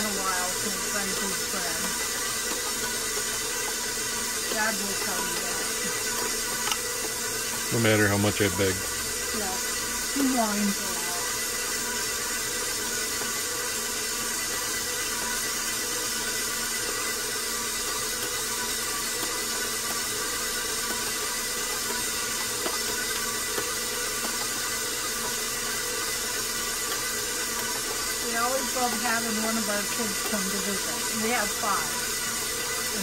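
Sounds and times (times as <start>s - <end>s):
electric stand mixer running: 0.0s - 33.0s.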